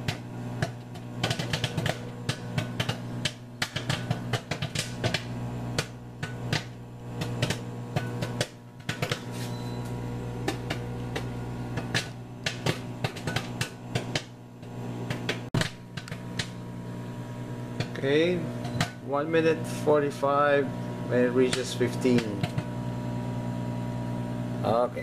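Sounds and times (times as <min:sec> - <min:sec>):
popcorn popping: 0:00.0 - 0:19.9, 0:20.6 - 0:24.8
microwave humming: 0:00.0 - 0:25.0.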